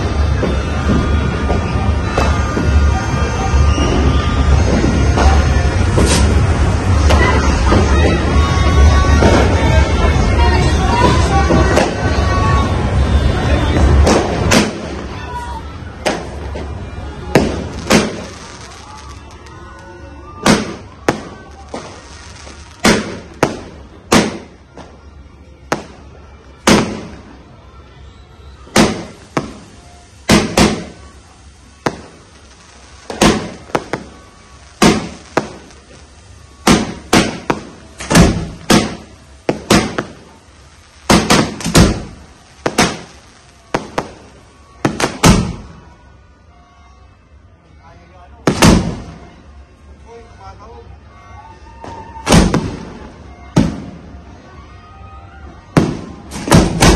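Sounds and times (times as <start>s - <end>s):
fireworks sharp bangs: 0.0s - 46.1s, 48.4s - 49.5s, 51.7s - 56.9s
firework fountain hissing: 0.0s - 46.6s, 48.3s - 56.9s.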